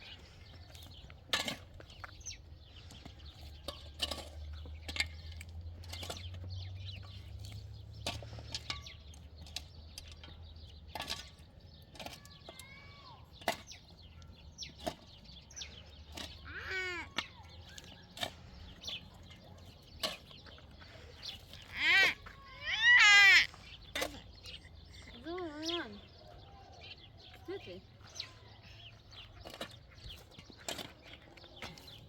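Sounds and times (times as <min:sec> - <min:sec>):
bird calls: 0:01.8 - 0:32.0.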